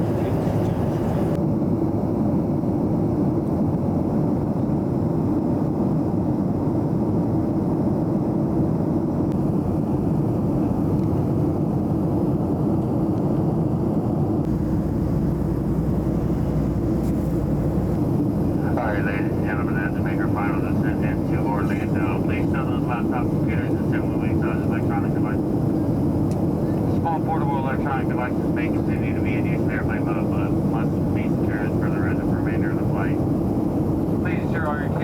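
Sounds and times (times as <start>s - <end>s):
airplane cabin drone: 0.0s - 35.0s.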